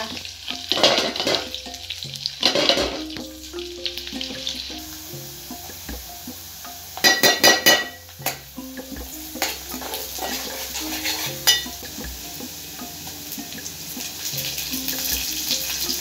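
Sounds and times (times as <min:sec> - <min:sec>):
onions sizzling in oil: 0:00.0 - 0:16.0
metal spoon knocking on a pot: 0:00.1 - 0:03.4, 0:05.5 - 0:15.8.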